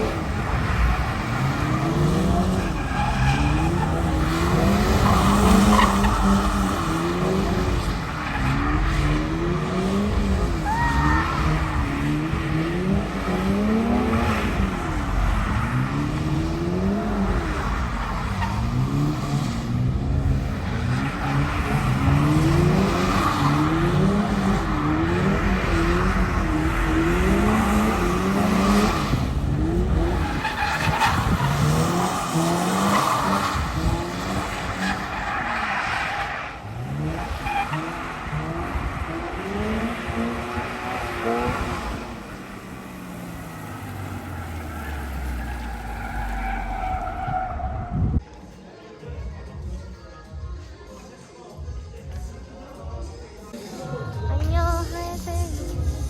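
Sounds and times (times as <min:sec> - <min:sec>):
car engine revving: 0:00.0 - 0:48.2
tyre and road noise: 0:00.0 - 0:48.5.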